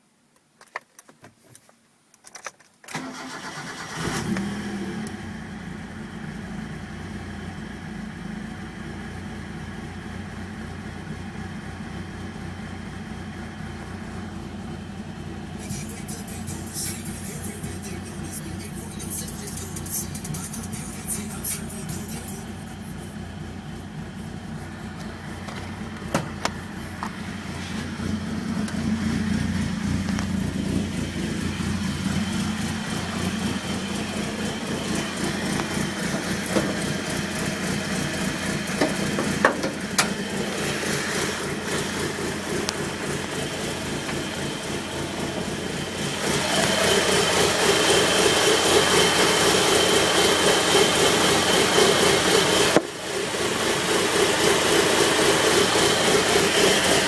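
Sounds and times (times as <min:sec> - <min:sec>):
car engine idling roughly: 0:05.4 - 0:57.0.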